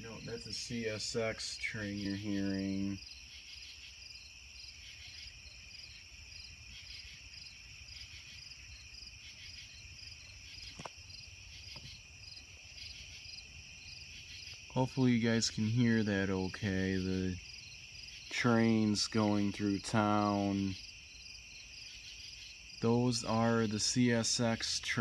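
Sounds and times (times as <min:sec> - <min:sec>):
pulsing insect chorus: 0:00.0 - 0:25.0.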